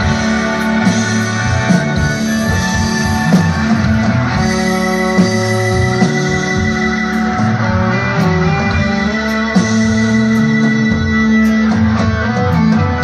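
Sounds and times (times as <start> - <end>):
electric guitars: 0.0 - 13.0
live rock band playing: 0.0 - 13.0.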